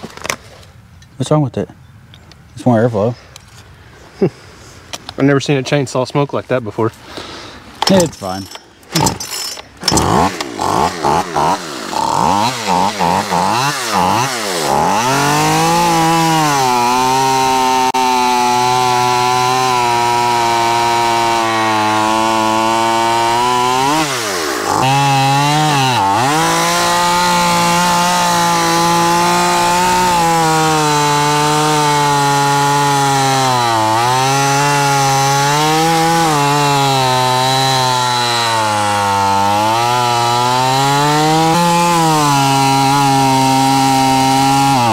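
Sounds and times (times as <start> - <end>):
chainsaw revving and cutting log: 7.8 - 44.9.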